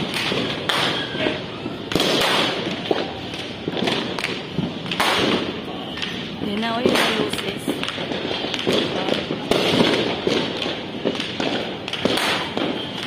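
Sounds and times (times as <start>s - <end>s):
continuous fireworks din: 0.0s - 13.0s
firecracker bangs: 0.0s - 13.0s.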